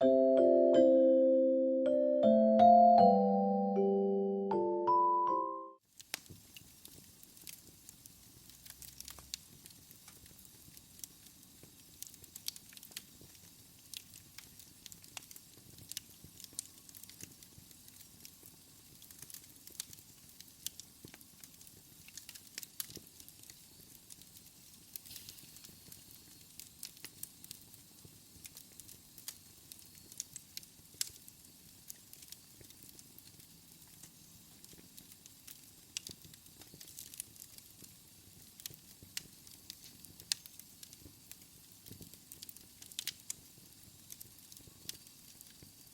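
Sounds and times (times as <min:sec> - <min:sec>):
faint steady hiss: 0:00.0 - 0:45.9
fire crackling in a fireplace: 0:05.8 - 0:45.9.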